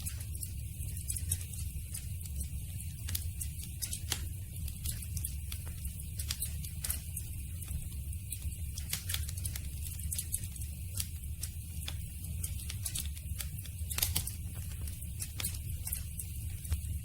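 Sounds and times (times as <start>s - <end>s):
wood crackling and popping: 0.0s - 17.0s
fire low rumble: 0.1s - 17.0s.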